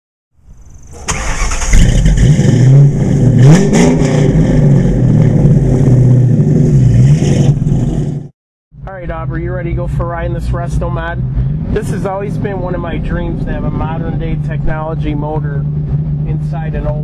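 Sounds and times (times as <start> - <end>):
car engine starting and revving: 0.6 - 8.3, 9.1 - 17.0.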